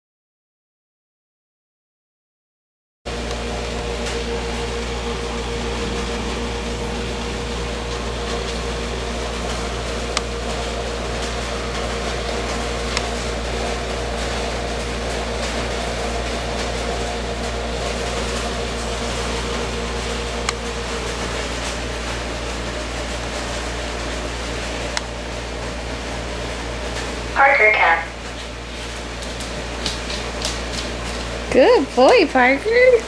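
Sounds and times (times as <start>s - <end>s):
electrical hum: 3.1s - 33.0s.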